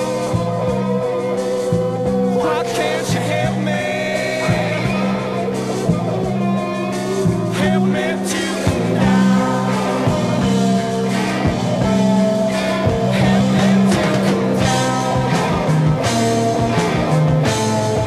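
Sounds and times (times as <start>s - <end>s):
bass guitar: 0.0s - 18.0s
drums and cymbals: 0.0s - 18.0s
electric guitars: 0.0s - 18.0s.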